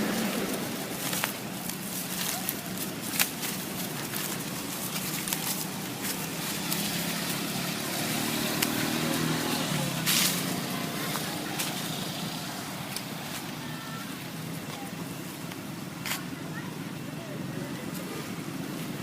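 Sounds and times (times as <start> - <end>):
vehicle passing on a road: 0.0 - 19.0.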